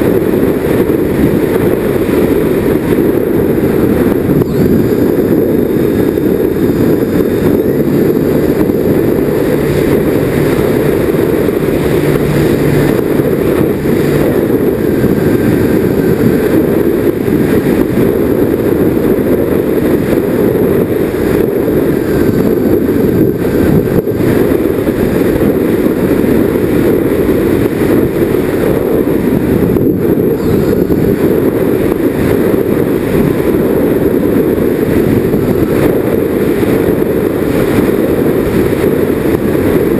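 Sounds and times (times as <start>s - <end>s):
model plane motors and propellers: 0.0s - 39.9s
wind on microphone: 0.0s - 39.9s.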